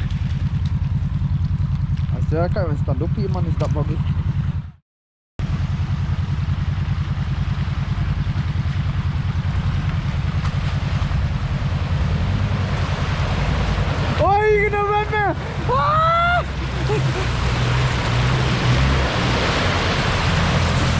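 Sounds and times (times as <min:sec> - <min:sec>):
off-road engine rumbling: 0:00.0 - 0:04.8, 0:05.4 - 0:20.9.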